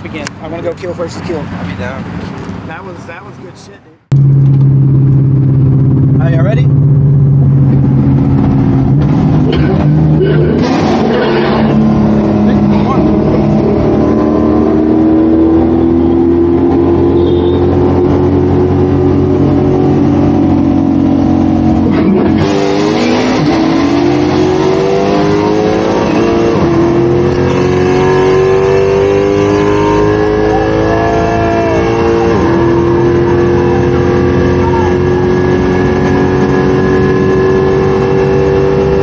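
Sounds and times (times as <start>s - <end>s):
car engine at full throttle: 4.0s - 39.0s.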